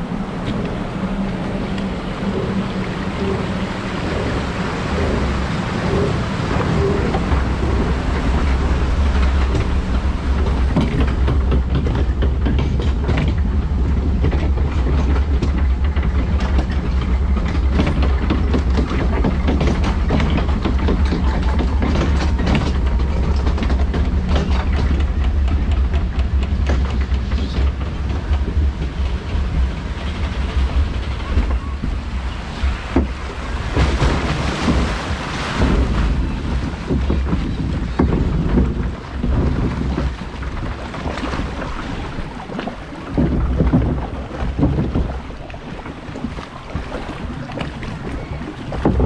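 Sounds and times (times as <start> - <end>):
lift chain low drone: 0.0 - 49.0
water rushing in trough: 0.0 - 49.0.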